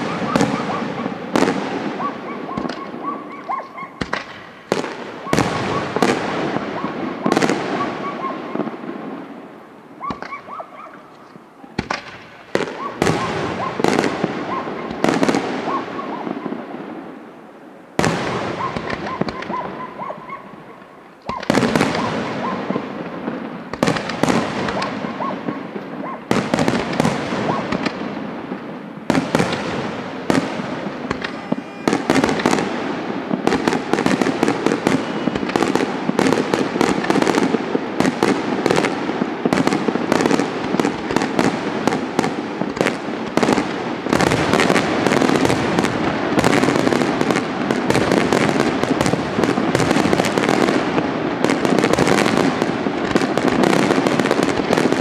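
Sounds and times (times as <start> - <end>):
fireworks bangs and crackle: 0.0 - 55.0.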